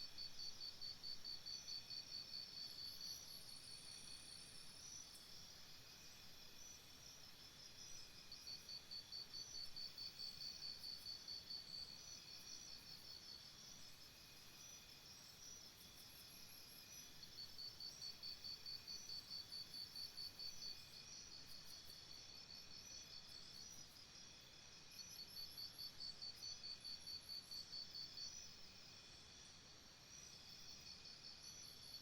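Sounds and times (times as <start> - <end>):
insect chirping: 0.2 - 32.0.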